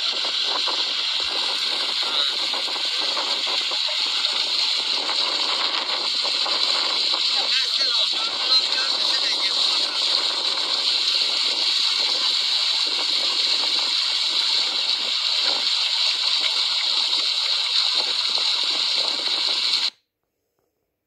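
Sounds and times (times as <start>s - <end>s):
water gushing from a pipe: 0.0s - 19.9s
water splashing on plastic jug: 0.0s - 19.9s.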